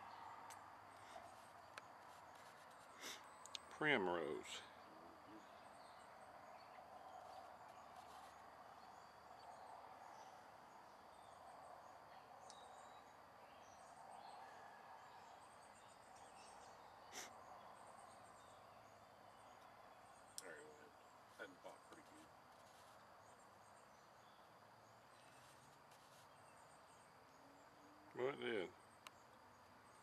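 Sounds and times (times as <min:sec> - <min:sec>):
insect chirps in trills: 0:00.0 - 0:30.0.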